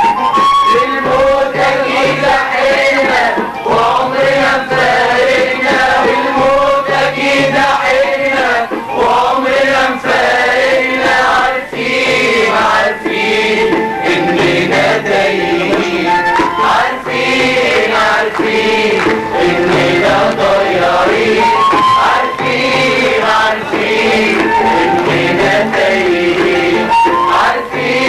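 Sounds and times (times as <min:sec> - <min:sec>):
music: 0:00.0 - 0:28.0
group singing a chant-like song: 0:00.7 - 0:28.0.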